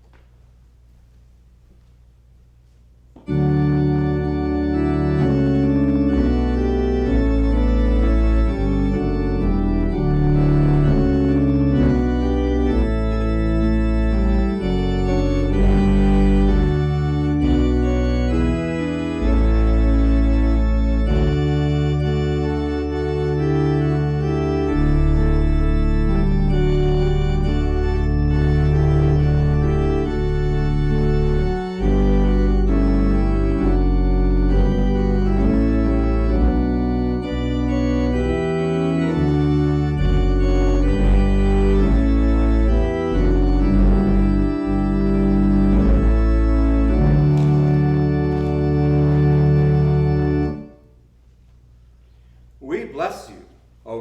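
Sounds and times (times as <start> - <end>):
organ playing sustained chords: 2.6 - 53.3.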